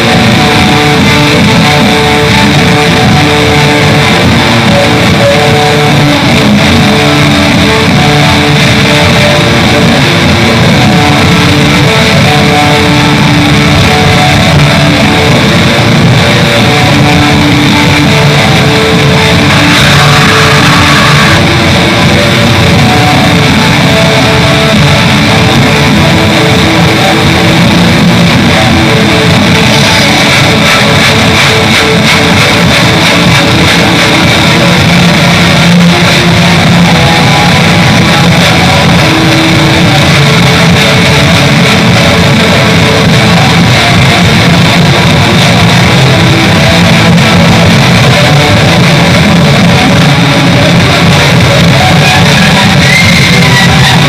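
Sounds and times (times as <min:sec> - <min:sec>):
black metal song: 0:00.0 - 0:54.0.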